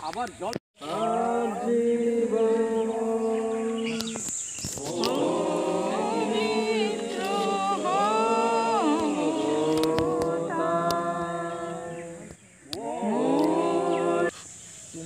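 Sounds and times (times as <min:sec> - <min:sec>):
voices singing unaccompanied: 0:00.8 - 0:15.0.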